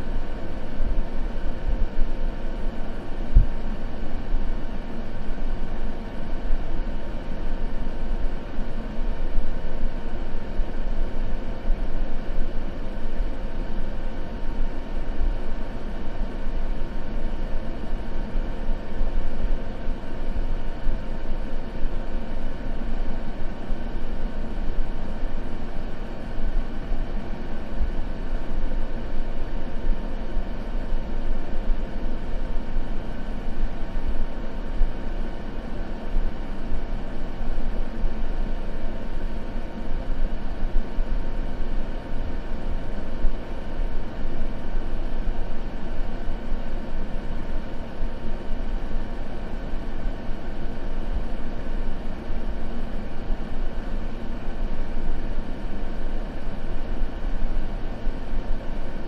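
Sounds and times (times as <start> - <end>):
faint steady hum: 0.0 - 59.0
white noise: 0.0 - 59.0.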